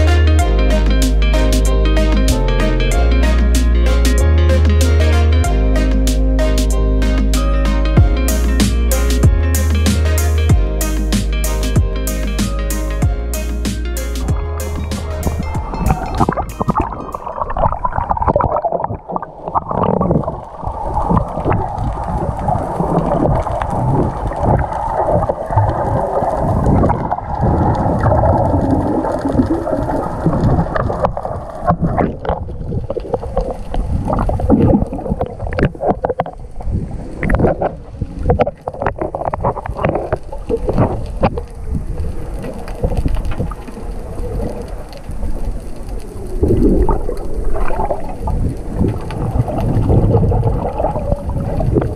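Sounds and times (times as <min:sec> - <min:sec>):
underwater water rush: 0:00.0 - 0:51.9.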